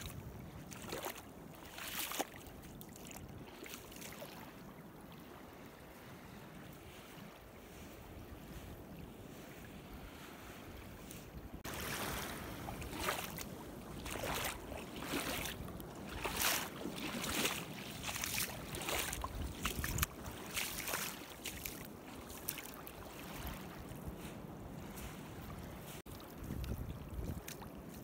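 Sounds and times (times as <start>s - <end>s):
feet splashing in shallow water: 0.0s - 28.0s
soft wash of water: 0.0s - 28.0s.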